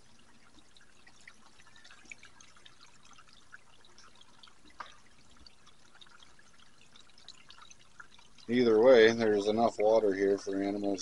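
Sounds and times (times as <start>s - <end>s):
small water ticks: 0.0s - 11.0s
water trickling over rocks: 0.0s - 11.0s.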